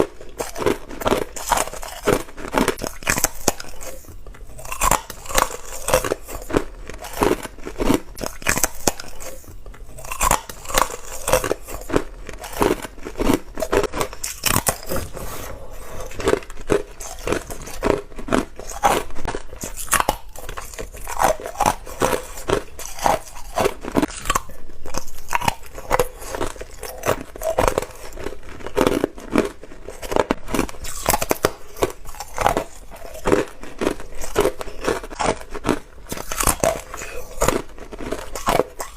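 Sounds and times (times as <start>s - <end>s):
teeth crunching ice: 0.0s - 38.9s.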